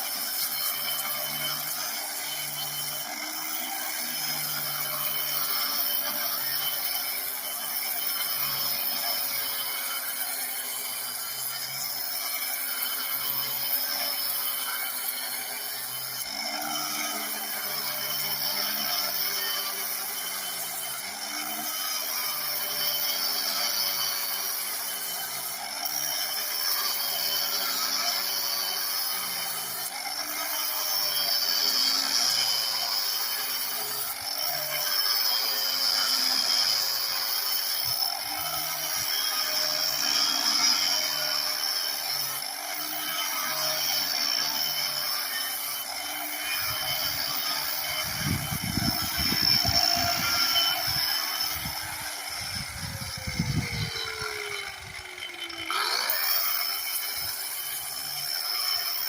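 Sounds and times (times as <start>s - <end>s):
angle grinder grinding wood: 0.0s - 59.0s.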